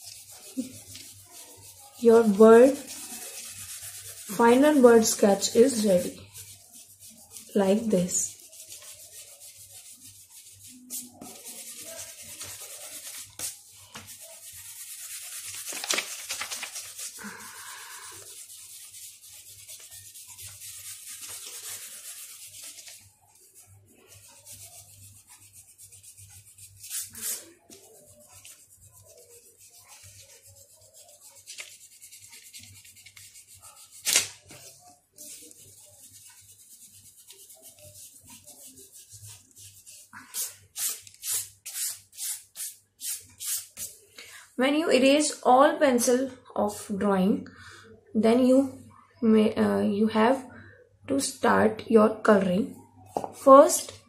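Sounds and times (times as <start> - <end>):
eraser rubbing on paper: 0.0 - 44.0.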